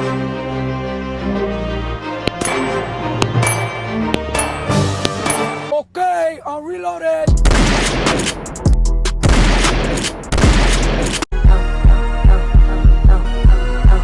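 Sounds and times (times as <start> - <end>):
music: 0.0 - 5.8, 7.3 - 14.0.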